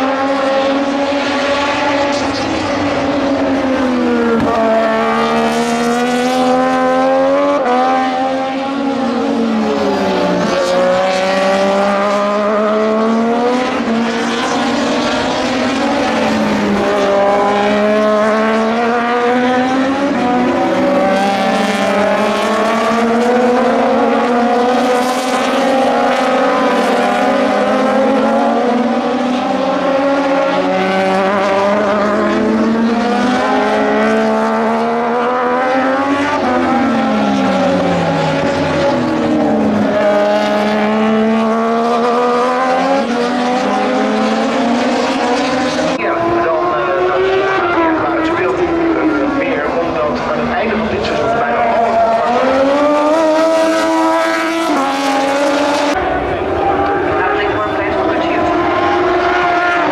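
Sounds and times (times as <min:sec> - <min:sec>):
racing motorcycle engines: 0:00.0 - 0:59.9.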